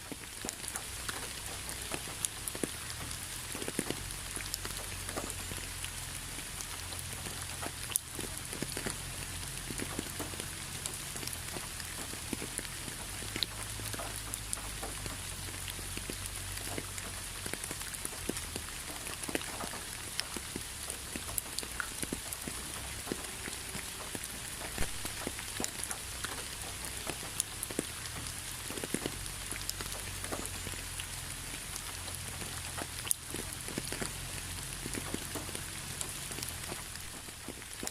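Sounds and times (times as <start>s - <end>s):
rain hiss: 0.0s - 37.9s
raindrops ticking on a surface: 0.0s - 37.9s.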